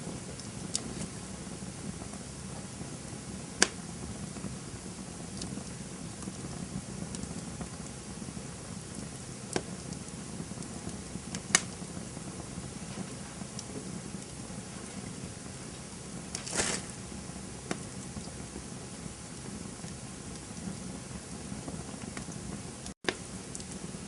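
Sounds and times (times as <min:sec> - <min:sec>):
campfire crackling: 0:00.0 - 0:24.0
sharp fire pops: 0:00.0 - 0:24.0.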